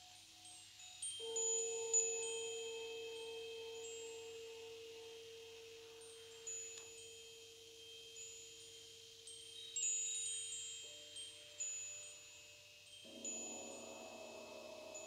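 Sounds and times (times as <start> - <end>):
soft chimes ringing: 0.0 - 15.0.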